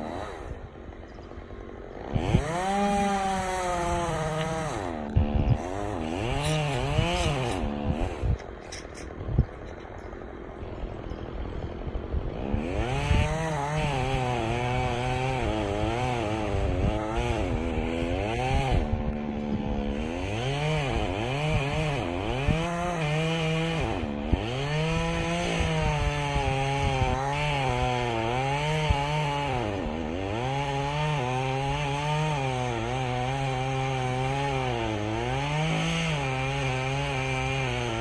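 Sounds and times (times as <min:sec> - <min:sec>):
chainsaw cutting wood: 0:00.0 - 0:38.0.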